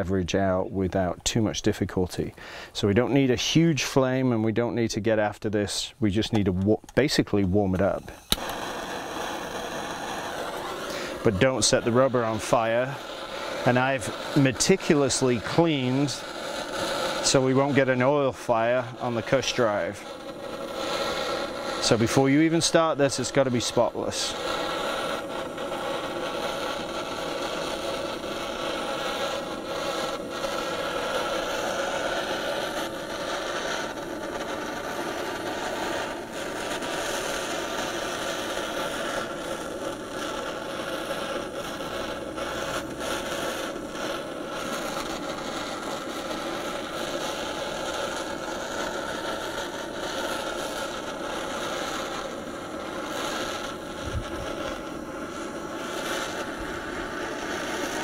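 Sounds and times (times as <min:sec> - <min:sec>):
gas torch hissing: 0:00.0 - 0:58.0.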